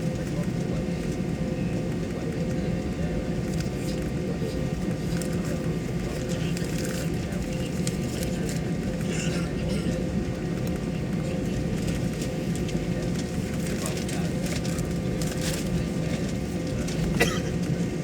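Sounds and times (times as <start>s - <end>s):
airliner cabin hum: 0.0s - 18.0s.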